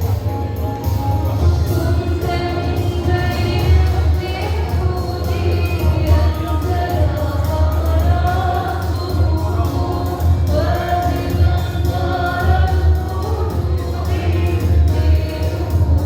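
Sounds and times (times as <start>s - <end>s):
gospel choir singing: 0.0s - 16.0s
steady bass: 0.0s - 16.0s.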